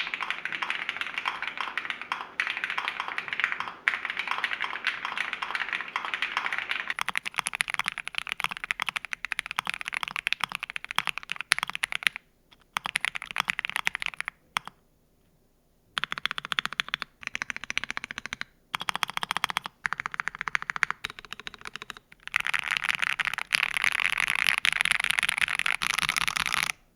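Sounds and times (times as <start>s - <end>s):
fast typing on mechanical keyboard: 0.0s - 14.8s, 16.0s - 26.8s.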